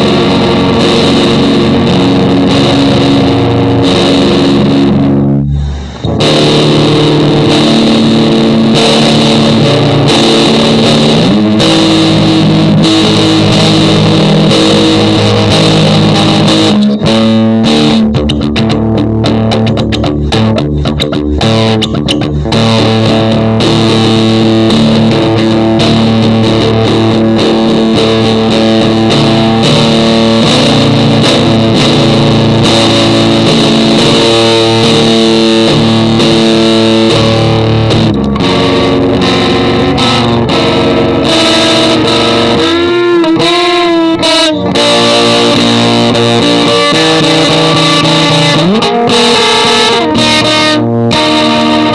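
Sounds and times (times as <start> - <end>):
distorted electric guitar music: 0.0 - 51.9.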